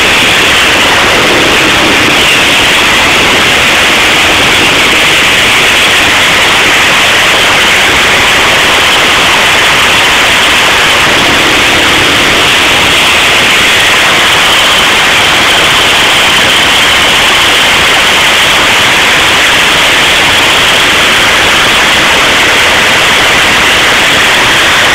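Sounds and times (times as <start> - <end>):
loud distorted diesel engine: 0.0 - 24.9.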